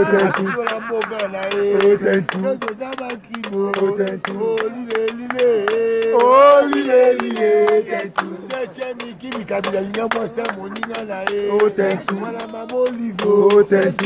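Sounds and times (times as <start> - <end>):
man singing: 0.0 - 14.0
percussive beat: 0.0 - 14.0.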